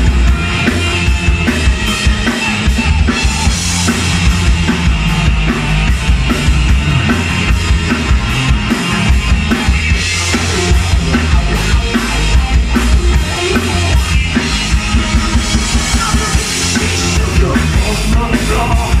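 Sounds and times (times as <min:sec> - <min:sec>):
bass guitar: 0:00.0 - 0:19.0
drum kit: 0:00.0 - 0:19.0
electric guitar: 0:00.0 - 0:19.0.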